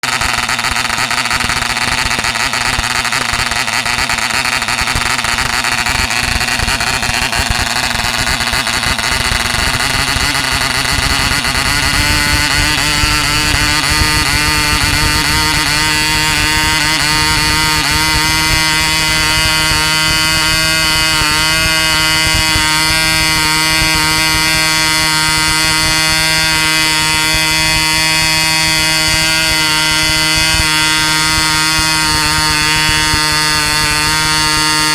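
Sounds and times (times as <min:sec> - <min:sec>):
model engine high buzz: 0:00.0 - 0:34.9.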